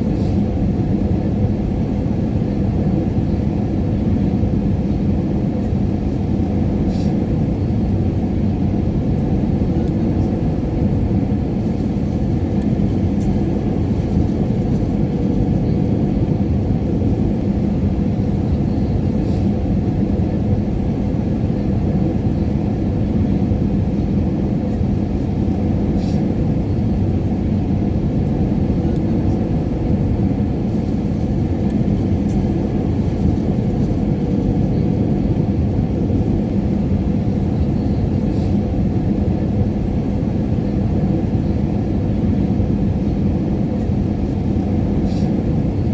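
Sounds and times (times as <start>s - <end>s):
airplane engines and airflow rumble: 0.0s - 45.9s.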